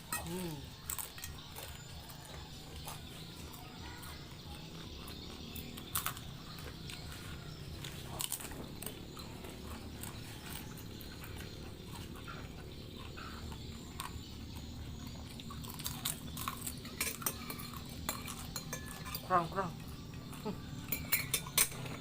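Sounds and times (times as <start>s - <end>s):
chewing and mouth noises: 0.0s - 22.0s.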